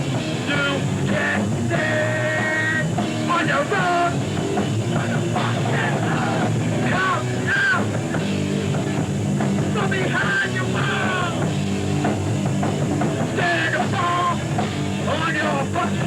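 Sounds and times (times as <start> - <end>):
punk band playing live: 0.0 - 16.0.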